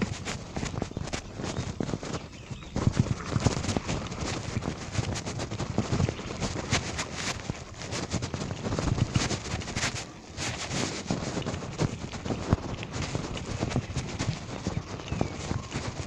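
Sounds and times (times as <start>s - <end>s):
rough rolling noise on dirt road: 0.0s - 16.0s.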